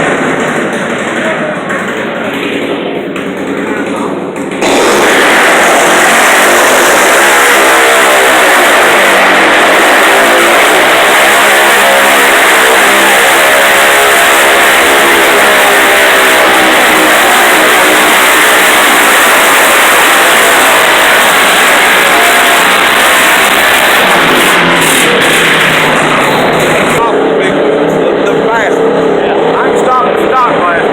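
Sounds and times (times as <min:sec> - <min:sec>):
tractor engine running at high revs: 0:00.0 - 0:30.9.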